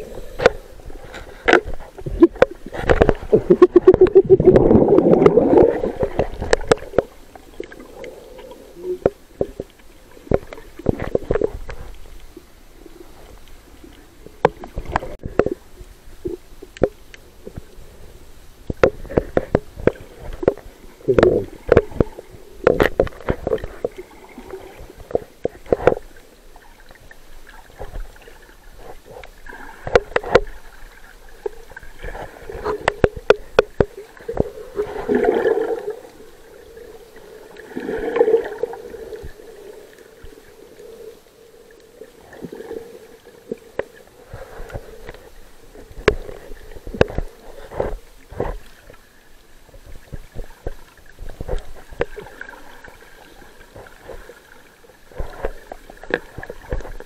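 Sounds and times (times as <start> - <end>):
muffled underwater water gurgling: 0.0 - 57.0.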